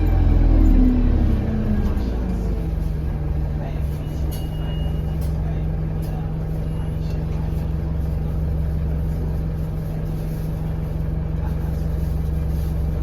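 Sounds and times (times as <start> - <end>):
bus diesel engine droning: 0.0 - 13.0
road and cabin noise: 0.0 - 13.0.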